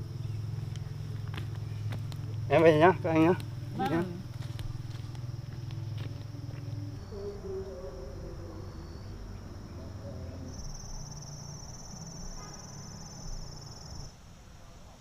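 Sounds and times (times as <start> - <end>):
insect trilling: 0.0 - 14.1.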